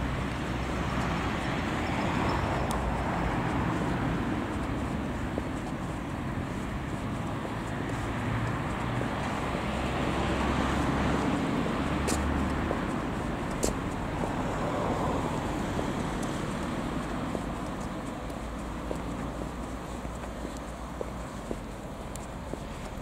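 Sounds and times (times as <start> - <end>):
road noise: 0.0 - 23.0.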